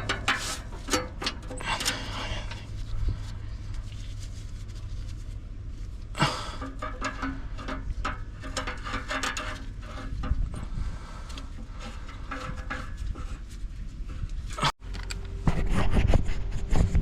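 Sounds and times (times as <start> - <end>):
hand tools on metal parts: 0.0 - 4.2, 5.9 - 15.4.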